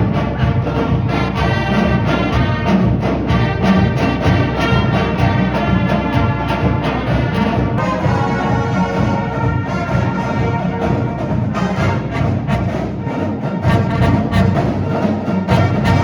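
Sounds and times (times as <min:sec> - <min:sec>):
marching band brass: 0:00.0 - 0:16.0
steady drum beat: 0:00.0 - 0:16.0.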